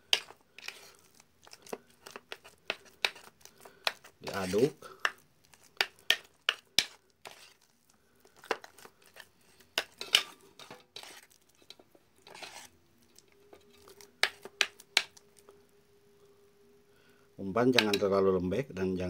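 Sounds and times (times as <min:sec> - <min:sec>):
sticky squishes of paste kneaded: 0:00.0 - 0:15.5.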